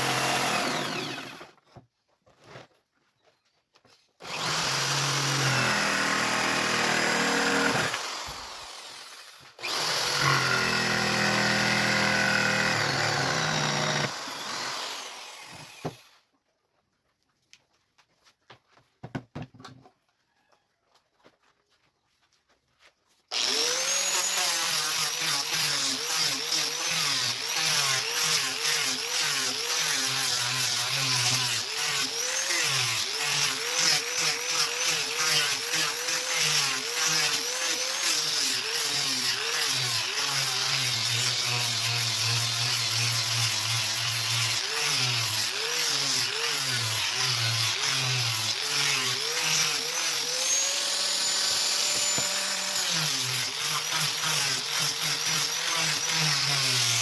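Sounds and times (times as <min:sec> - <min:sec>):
power tool motor cutting wood: 0:00.0 - 0:01.6, 0:04.2 - 0:16.2, 0:23.3 - 0:57.0.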